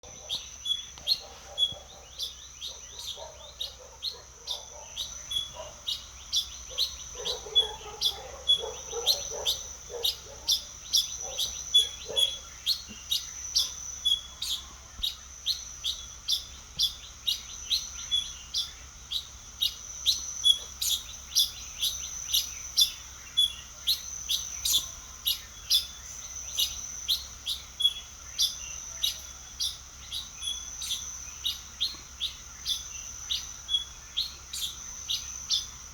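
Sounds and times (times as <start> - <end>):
birds chirping: 0.0 - 35.9
lower-pitched bird calls: 0.0 - 35.9.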